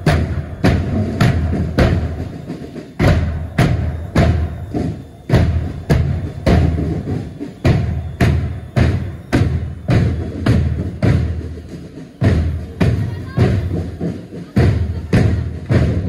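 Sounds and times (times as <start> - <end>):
marching bass drums: 0.0 - 16.0.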